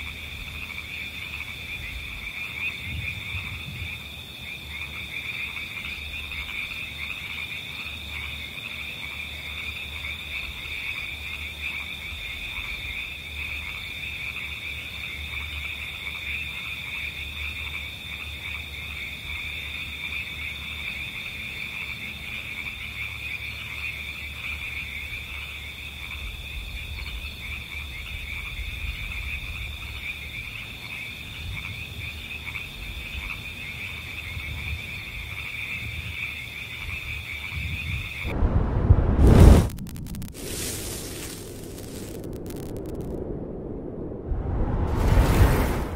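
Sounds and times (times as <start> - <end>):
frogs croaking: 0.0 - 38.4.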